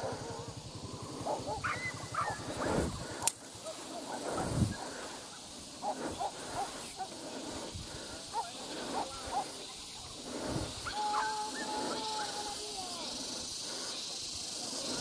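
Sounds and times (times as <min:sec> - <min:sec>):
hunting dogs barking and yelping: 0:00.0 - 0:15.0.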